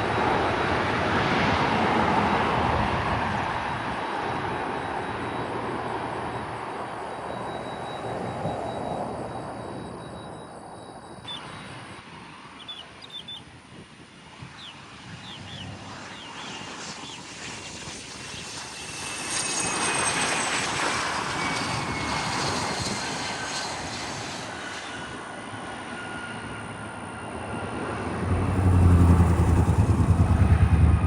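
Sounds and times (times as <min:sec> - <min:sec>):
jet airplane passing by: 0:00.0 - 0:31.0.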